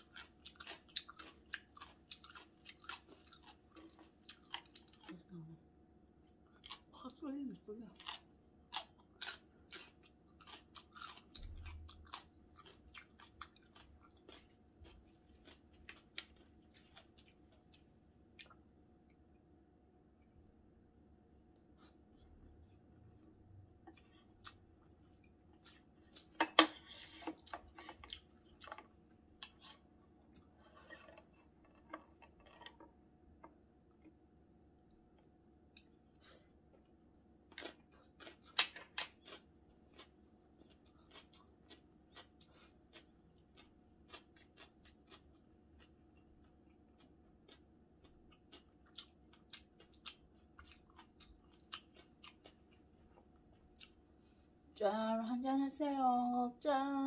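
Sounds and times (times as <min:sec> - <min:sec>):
chewing food: 0:00.0 - 0:05.6, 0:06.2 - 0:19.5, 0:21.5 - 0:34.2, 0:34.9 - 0:54.4
faint steady hum: 0:00.0 - 0:57.0.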